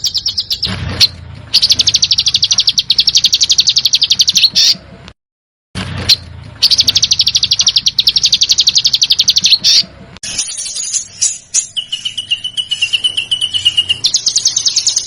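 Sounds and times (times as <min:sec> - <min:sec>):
bird chirps: 0:00.0 - 0:04.8, 0:06.0 - 0:15.0
songbird fast trill: 0:00.0 - 0:04.8, 0:06.0 - 0:15.0.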